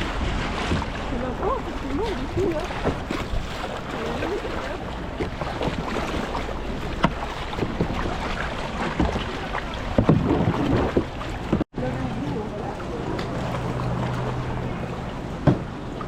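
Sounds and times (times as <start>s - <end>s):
water splashing around kayak: 0.0s - 16.0s
wind on microphone: 0.0s - 16.0s.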